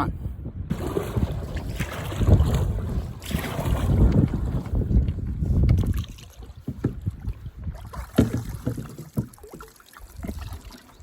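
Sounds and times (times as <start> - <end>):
wind buffeting microphone: 0.0 - 8.9
water splashing against canoe hull: 0.7 - 11.0.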